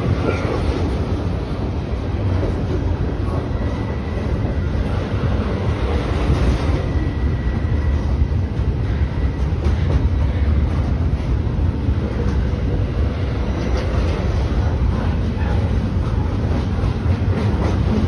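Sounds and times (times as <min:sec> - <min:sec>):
freight train wheels rumbling on rail: 0:00.0 - 0:18.0.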